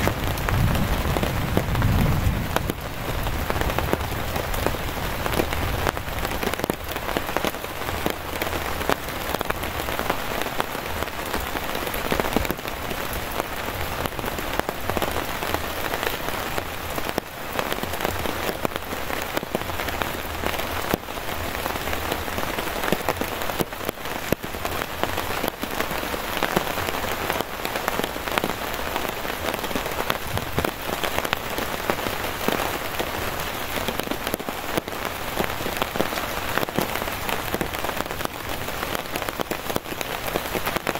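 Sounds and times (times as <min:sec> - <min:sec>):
heavy rain on canvas tarp: 0:00.0 - 0:40.9.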